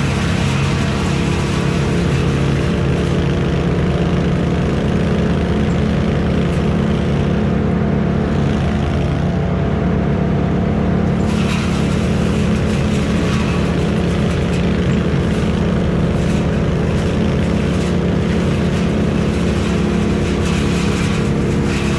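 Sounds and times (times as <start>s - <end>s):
irregular clattering and crackling: 0.0s - 7.6s, 11.0s - 21.9s
heavy engine running steadily: 0.0s - 21.9s.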